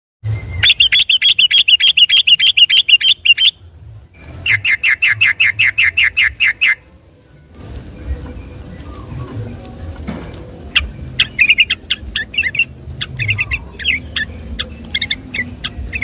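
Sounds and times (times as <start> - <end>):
bird singing rolling notes: 0.2 - 16.0.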